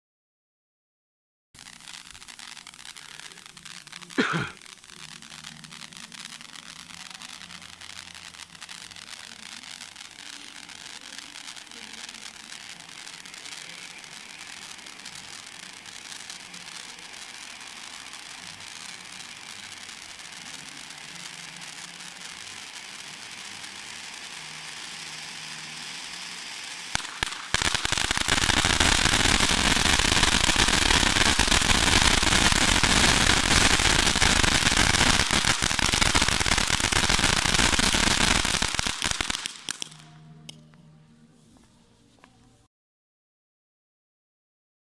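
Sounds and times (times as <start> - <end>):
firework sparks hissing and crackling: 1.6 - 40.6.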